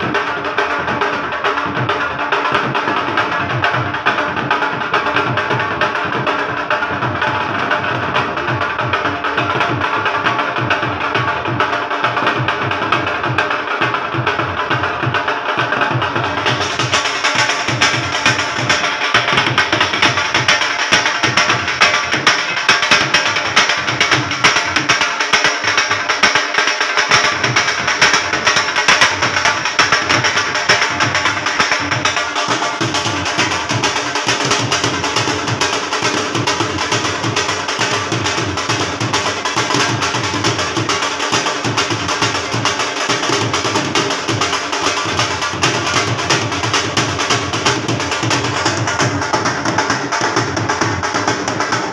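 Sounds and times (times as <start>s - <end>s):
dhol drums beating fast: 0.0s - 51.9s.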